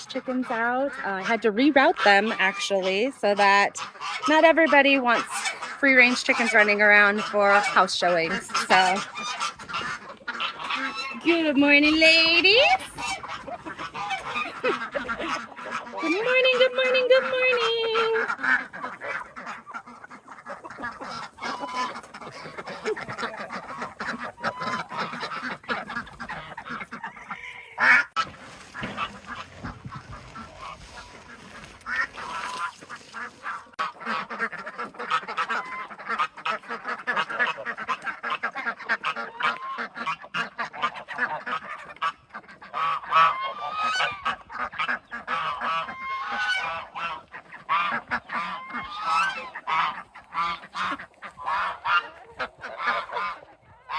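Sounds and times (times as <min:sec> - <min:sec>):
chickens squawking: 0:00.0 - 0:53.9.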